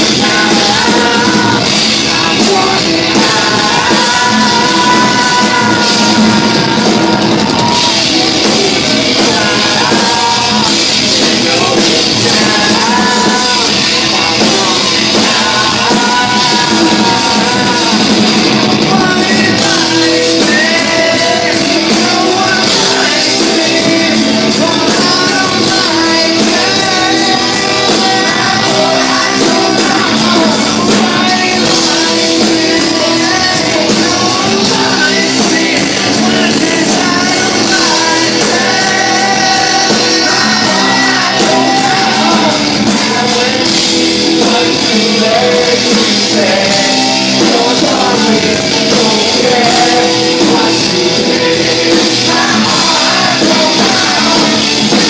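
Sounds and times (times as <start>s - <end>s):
live rap-rock band playing: 0.0s - 55.0s
steady drum beat: 0.0s - 55.0s
sung and shouted vocals: 0.0s - 55.0s.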